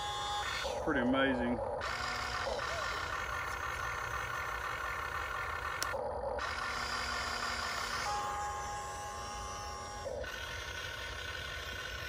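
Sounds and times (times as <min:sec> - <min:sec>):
toy excavator motors whining: 0:00.0 - 0:12.0.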